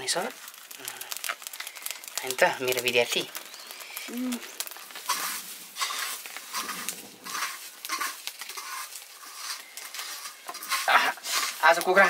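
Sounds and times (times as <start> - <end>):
wood fire crackling: 0.0 - 12.0
scraping and rubbing feathers: 0.4 - 12.0.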